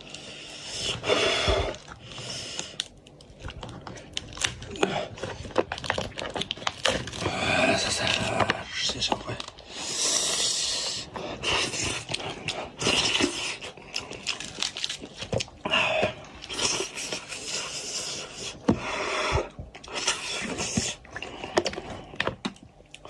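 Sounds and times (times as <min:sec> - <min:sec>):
person eating noisily: 0:00.0 - 0:23.0.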